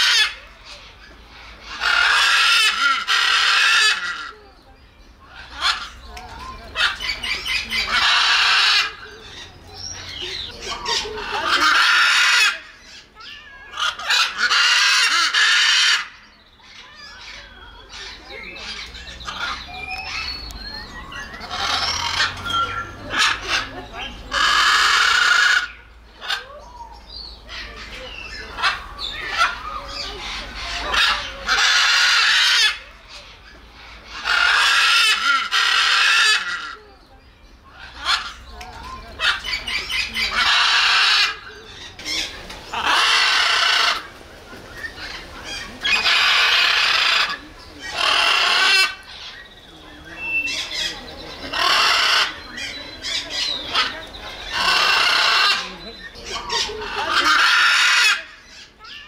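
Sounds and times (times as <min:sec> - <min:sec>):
macaw squawking: 0:01.5 - 0:04.4, 0:06.7 - 0:26.5, 0:27.6 - 0:32.9, 0:34.0 - 0:36.8, 0:39.2 - 0:44.1, 0:44.9 - 0:49.5, 0:50.1 - 0:59.0.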